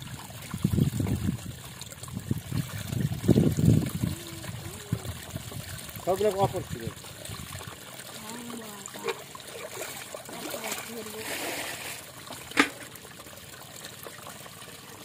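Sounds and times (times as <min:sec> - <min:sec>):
shallow water trickling and splashing: 0:00.0 - 0:15.0.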